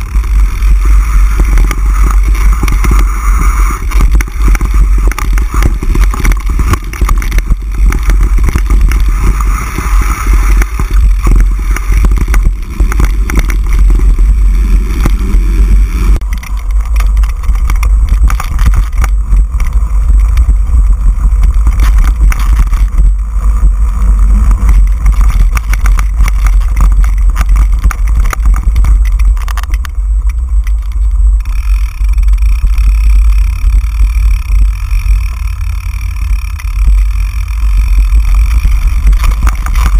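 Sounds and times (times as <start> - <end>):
bike rattling over rough ground: 0.0 - 39.9
wind rumble on microphone: 0.0 - 39.9.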